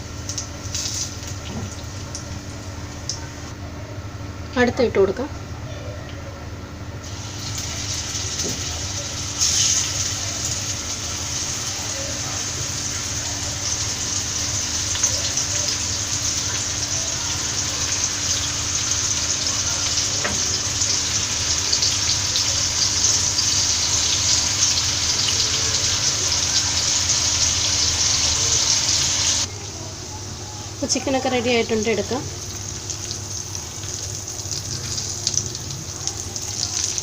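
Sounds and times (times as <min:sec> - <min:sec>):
chicken deep-frying in oil: 0:00.0 - 0:03.6, 0:07.0 - 0:37.0.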